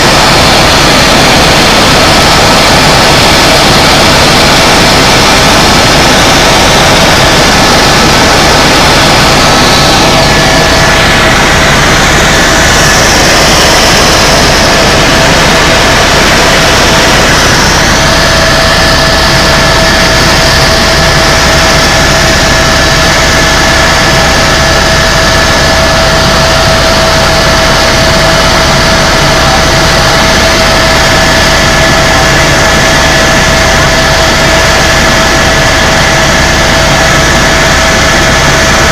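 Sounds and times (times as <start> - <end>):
helicopter rotor and turbine drone: 0.0 - 38.9.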